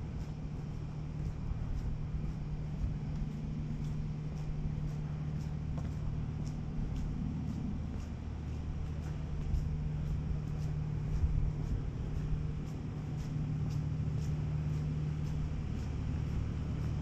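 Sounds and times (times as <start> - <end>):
footsteps on wet road: 0.0 - 17.0
machinery humming: 0.0 - 17.0.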